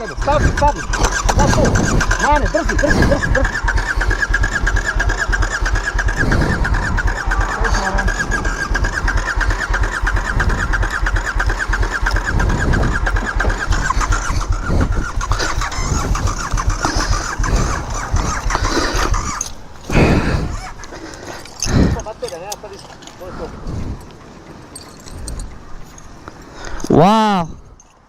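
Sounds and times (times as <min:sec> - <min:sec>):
motorcycle starter cranking: 0:00.0 - 0:27.0.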